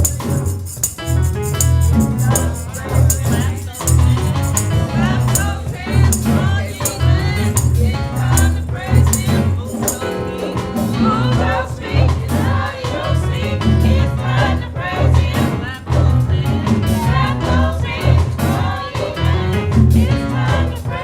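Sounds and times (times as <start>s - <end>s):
gospel singing with band: 0.0s - 1.0s, 1.6s - 21.0s.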